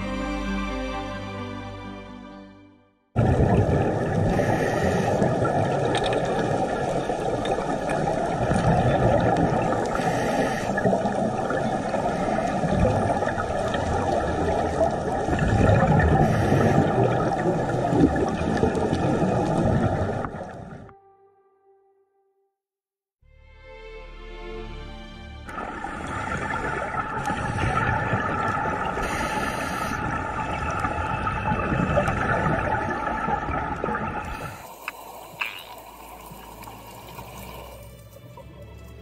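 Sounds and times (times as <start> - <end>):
deep underwater rush: 3.2 - 20.9, 25.5 - 39.0
regulator bubbles hissing: 3.2 - 20.9, 25.5 - 39.0.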